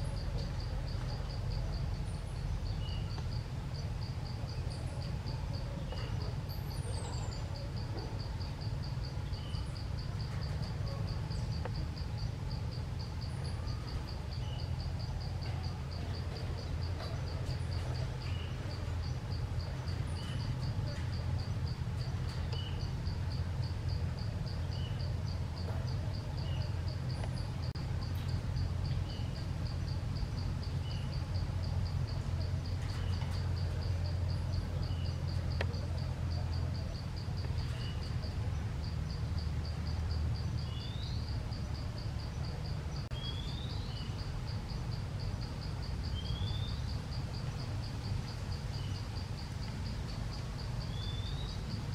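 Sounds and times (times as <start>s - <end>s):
insect chirps: 0.0s - 51.9s
insect pulsed trill: 0.0s - 51.9s
low steady rumble: 0.0s - 51.9s.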